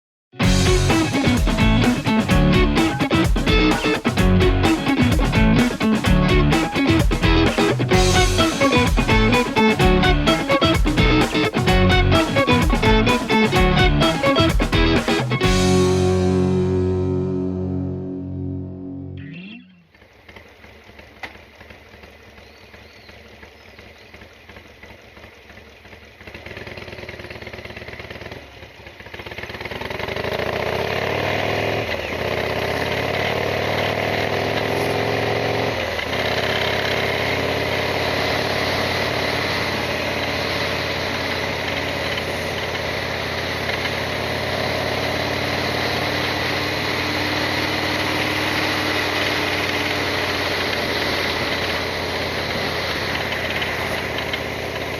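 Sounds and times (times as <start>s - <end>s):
motorcycle engine running: 0.4s - 54.9s.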